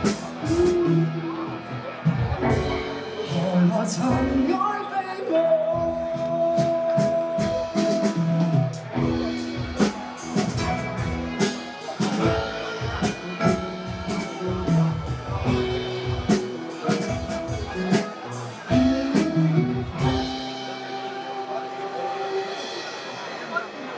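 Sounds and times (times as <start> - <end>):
sustained guitar notes: 0.0 - 23.9
drum kit hits: 1.9 - 4.6, 5.8 - 23.9.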